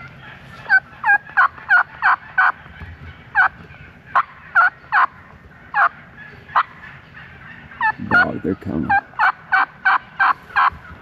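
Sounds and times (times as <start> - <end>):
turkey yelping: 0.1 - 11.0.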